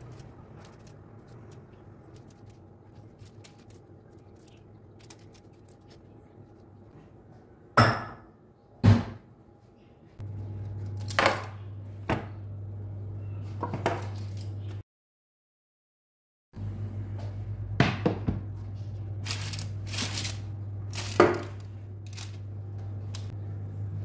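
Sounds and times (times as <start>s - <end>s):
steady low hum: 0.0s - 7.8s, 9.4s - 13.6s, 16.6s - 24.0s.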